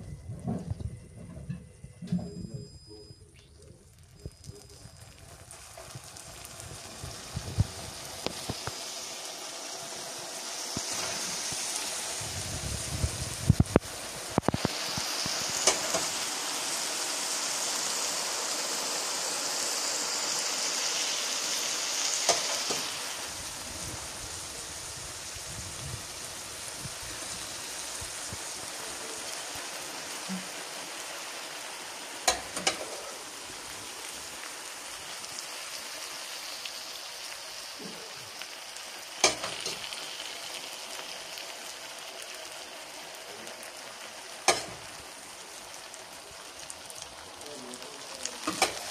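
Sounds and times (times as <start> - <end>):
syrup sizzling in pan: 3.8 - 48.9.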